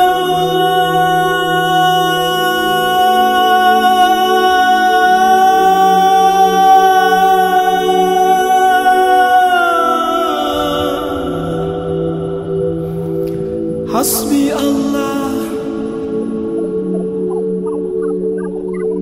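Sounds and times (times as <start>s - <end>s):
a cappella devotional singing: 0.0s - 19.0s.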